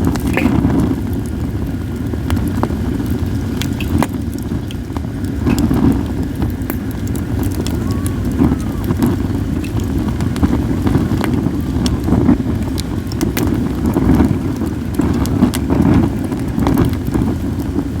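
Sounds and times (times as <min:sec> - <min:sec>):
firewood crackling and popping: 0:00.0 - 0:18.0
wind on microphone: 0:00.0 - 0:18.0.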